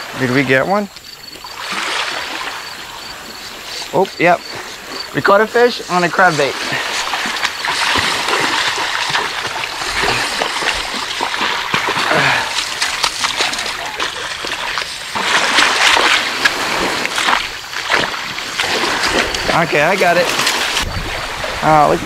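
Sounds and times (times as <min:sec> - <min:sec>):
water splashing at shoreline: 0:00.0 - 0:22.0.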